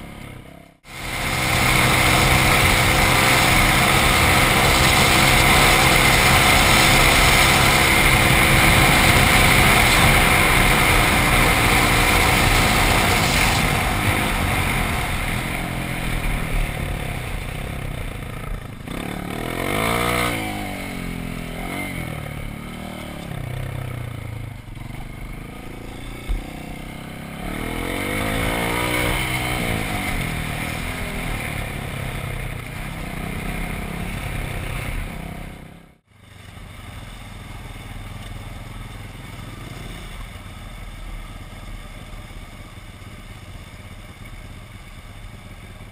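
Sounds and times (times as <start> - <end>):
dirt bike engine: 0.0 - 45.9
road and wind hiss: 0.9 - 45.9.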